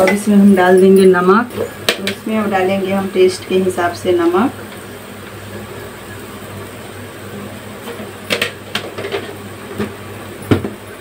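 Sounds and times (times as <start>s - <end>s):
masala frying in a pan: 0.0s - 11.0s.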